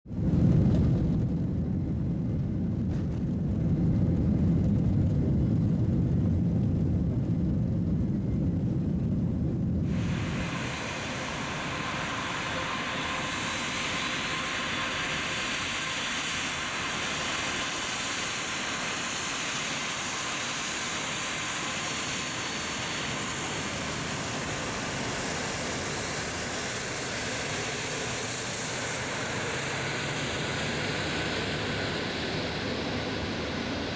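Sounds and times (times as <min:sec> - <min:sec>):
deep rumble: 0:00.1 - 0:33.6
jet engines whining and hissing: 0:00.1 - 0:33.9.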